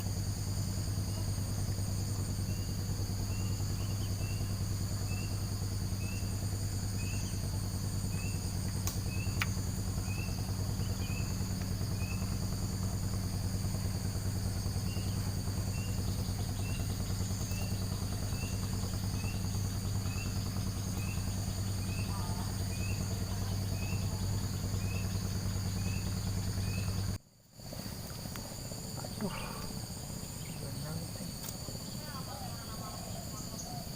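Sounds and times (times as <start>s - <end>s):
night insects trilling: 0.0s - 33.9s
steady low hum: 0.0s - 33.9s.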